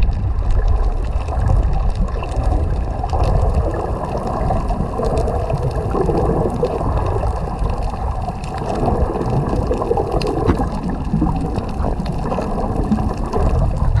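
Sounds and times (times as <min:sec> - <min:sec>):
underwater churning rumble: 0:00.0 - 0:14.0.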